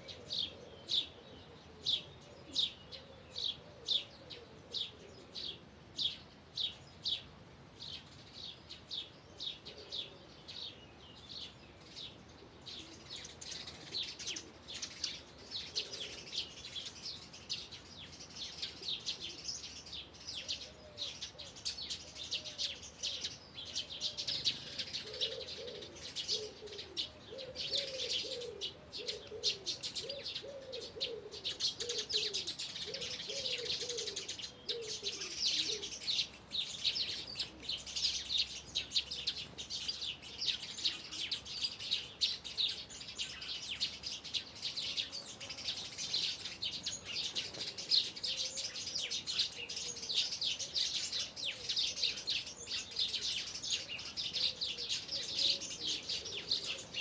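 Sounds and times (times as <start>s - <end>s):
bird chirping: 0.0s - 57.0s
birds twittering: 0.0s - 57.0s.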